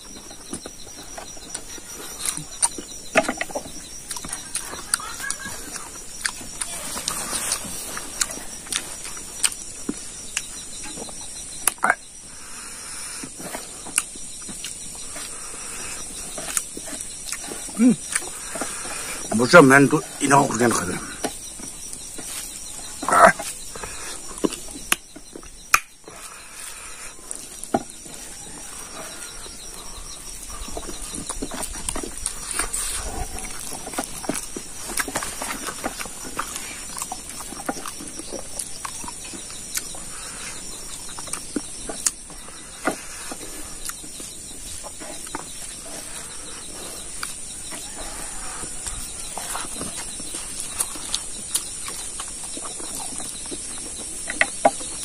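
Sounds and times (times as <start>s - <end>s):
high insect drone: 0.0s - 55.0s
wet chewing and lip-smacking: 0.1s - 11.9s, 13.2s - 19.2s, 20.3s - 55.0s.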